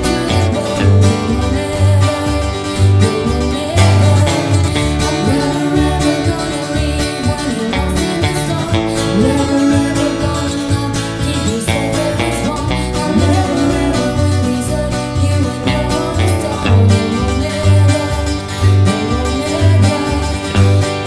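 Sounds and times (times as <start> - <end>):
guitar accompaniment: 0.0 - 21.0
woman singing: 0.0 - 21.0.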